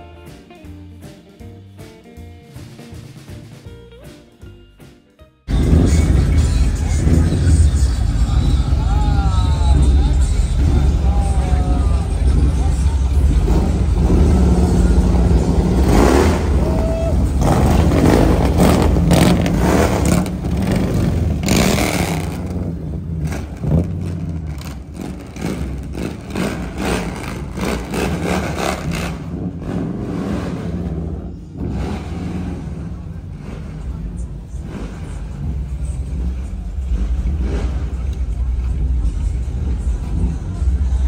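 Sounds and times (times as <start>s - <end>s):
car engine revving: 5.5s - 41.0s.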